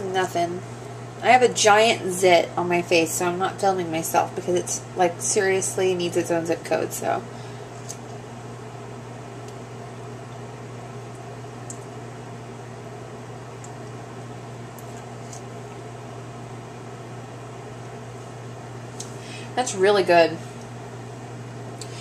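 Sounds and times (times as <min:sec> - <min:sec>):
low hum with hiss: 0:00.0 - 0:22.0.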